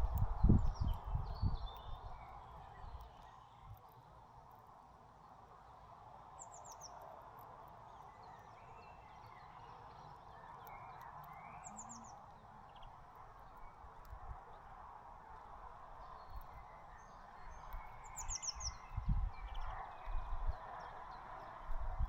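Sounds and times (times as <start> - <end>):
small songbirds calling: 0.0 - 22.0.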